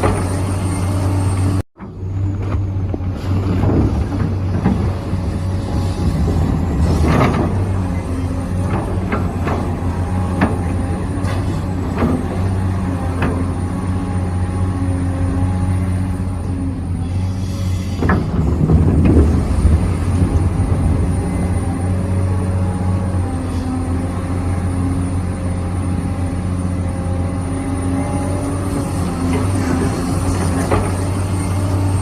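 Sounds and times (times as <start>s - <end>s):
low engine-like hum: 0.0s - 32.0s.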